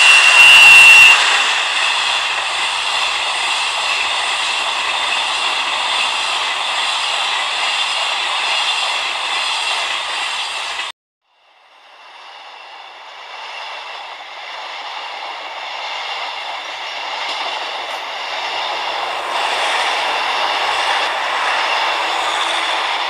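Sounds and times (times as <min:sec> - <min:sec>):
high motor whine: 0:00.0 - 0:23.0.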